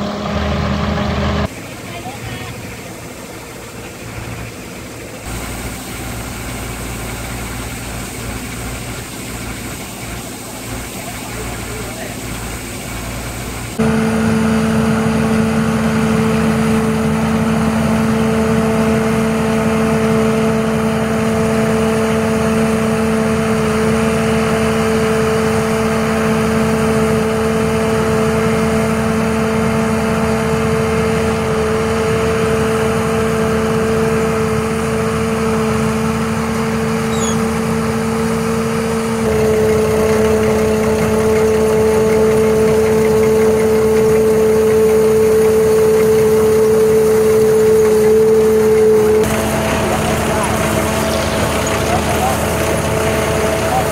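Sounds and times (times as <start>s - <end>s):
combine harvester machine hum: 0.0s - 53.9s.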